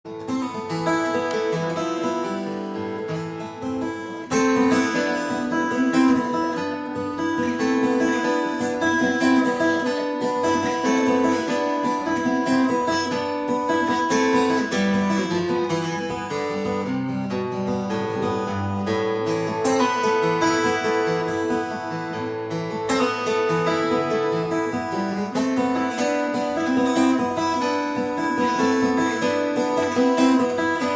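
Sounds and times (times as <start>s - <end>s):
acoustic guitar picking: 0.1s - 30.9s.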